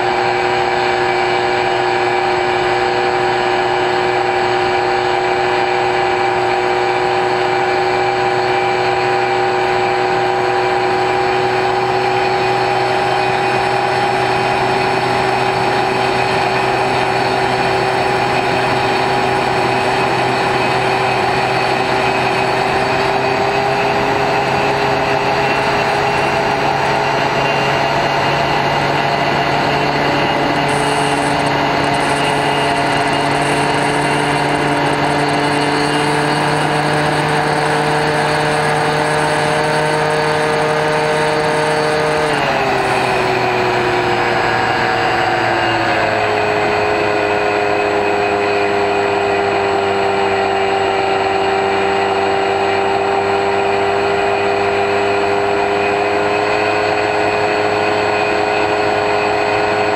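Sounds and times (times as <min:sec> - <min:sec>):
electric motor and propeller whining: 0:00.0 - 0:59.9.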